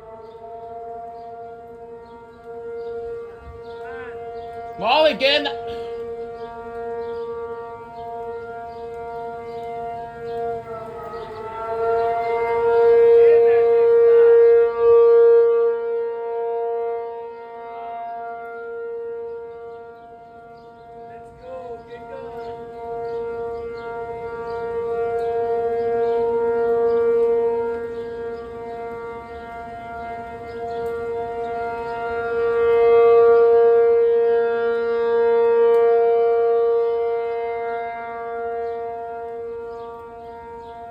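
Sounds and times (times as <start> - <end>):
outdoor warning siren: 0.0 - 40.9.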